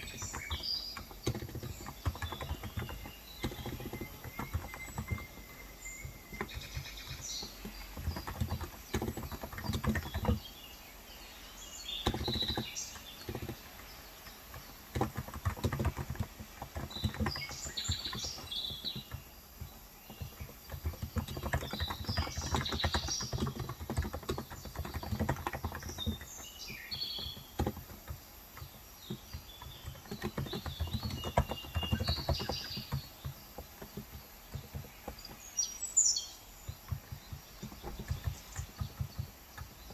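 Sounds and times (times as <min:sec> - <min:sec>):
keyboard typing clicks: 0:00.0 - 0:10.5, 0:12.0 - 0:35.4, 0:36.6 - 0:39.9
birds chirping: 0:00.0 - 0:39.9.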